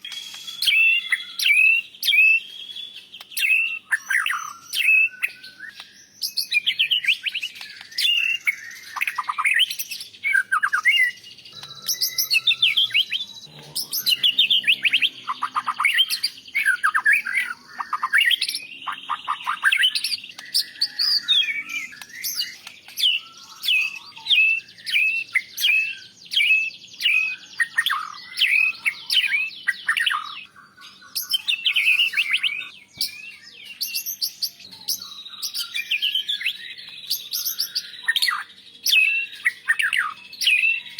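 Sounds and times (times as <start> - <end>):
songbird singing varied song: 0.0 - 40.9.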